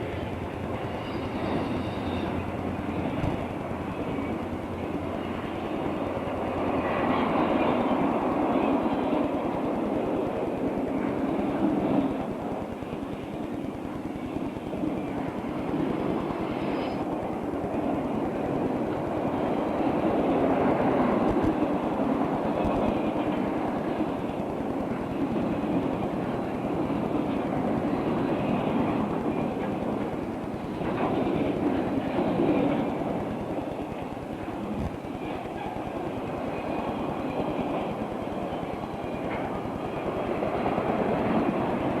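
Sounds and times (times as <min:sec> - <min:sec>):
freight train wheels rumbling: 0:00.0 - 0:42.0.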